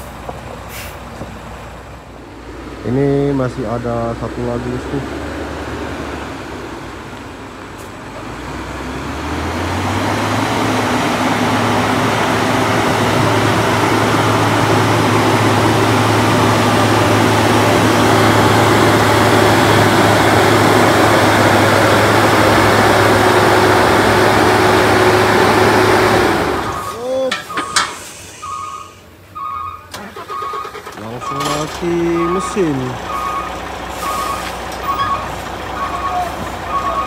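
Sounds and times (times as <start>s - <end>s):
truck diesel engine pulling uphill: 0.0s - 37.0s.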